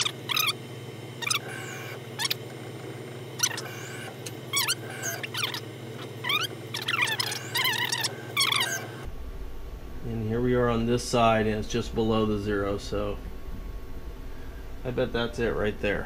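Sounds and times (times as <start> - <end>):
low machine hum: 0.0 - 16.0
machine drive whining chirps: 0.0 - 16.0.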